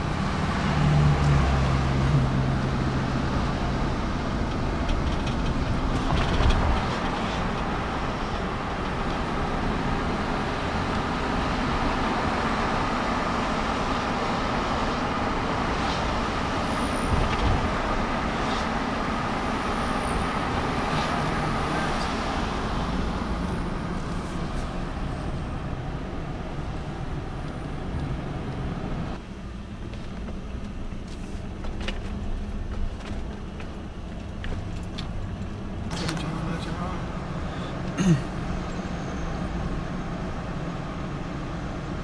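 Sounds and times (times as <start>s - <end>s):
vehicle road and engine noise: 0.0s - 42.0s.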